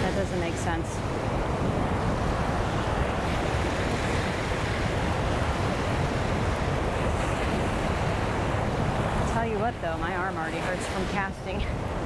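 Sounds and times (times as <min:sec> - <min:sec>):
ocean surf breaking on beach: 0:00.0 - 0:12.0
wind buffeting microphone: 0:00.0 - 0:12.0.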